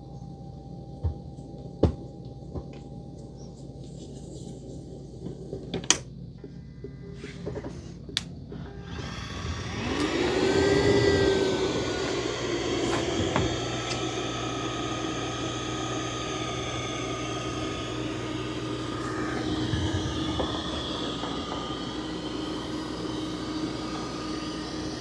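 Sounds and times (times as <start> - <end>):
constant high whine: 0.0 - 25.0
robot vacuum fan whir: 0.0 - 25.0.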